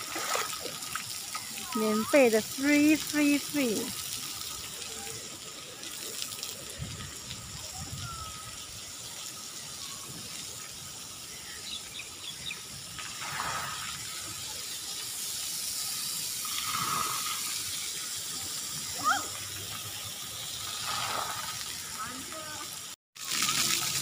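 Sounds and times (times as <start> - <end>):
water jets spraying: 0.0 - 24.0.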